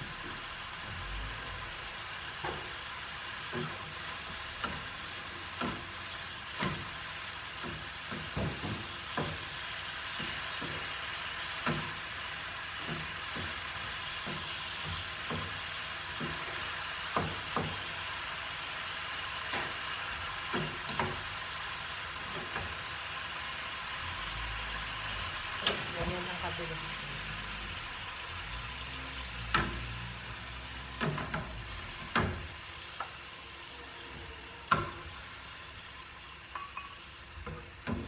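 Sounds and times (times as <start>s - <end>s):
vegetables sizzling in a frying pan: 0.0s - 38.0s.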